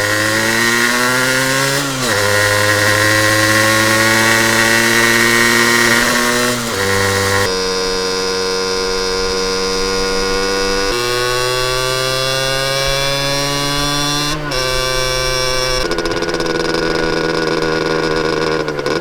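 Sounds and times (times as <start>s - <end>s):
two-stroke motorcycle buzzing: 0.0s - 19.0s.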